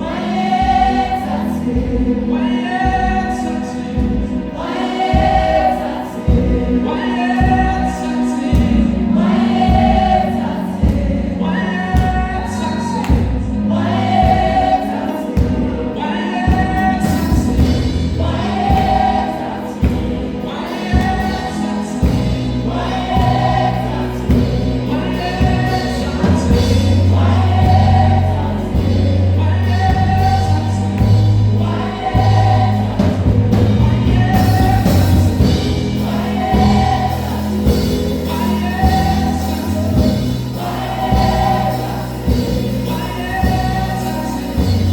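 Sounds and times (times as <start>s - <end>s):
gospel choir singing: 0.0s - 44.9s
sustained low accompaniment: 0.0s - 44.9s.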